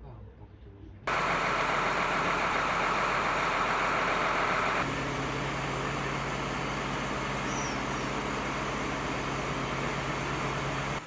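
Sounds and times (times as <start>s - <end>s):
low engine hum: 1.1s - 11.0s.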